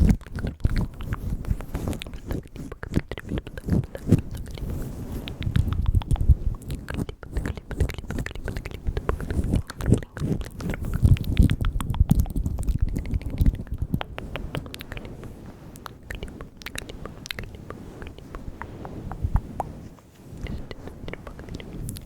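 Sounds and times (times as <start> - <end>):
wet lip and tongue clicks: 0.0 - 15.1, 15.7 - 18.7, 19.4 - 22.0.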